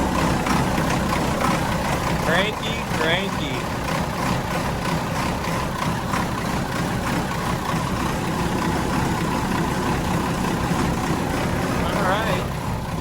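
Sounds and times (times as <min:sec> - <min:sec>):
boat diesel engines idling: 0:00.0 - 0:13.0.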